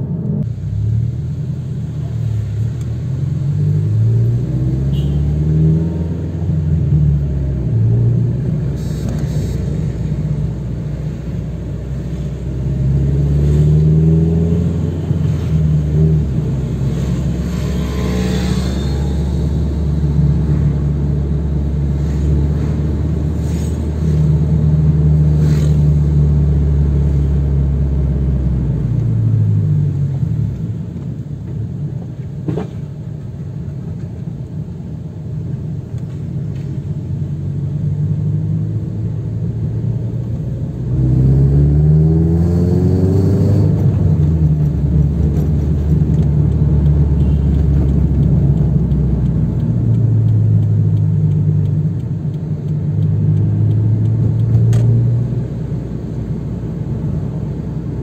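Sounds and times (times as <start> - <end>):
car engine from inside cabin: 0.0 - 58.0
road noise: 0.0 - 58.0.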